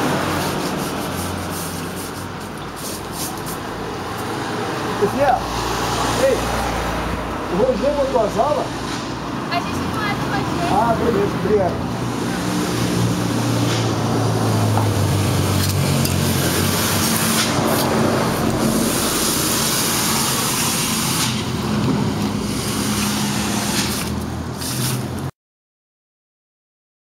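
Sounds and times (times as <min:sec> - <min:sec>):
vehicle engine hum: 0:00.0 - 0:25.3.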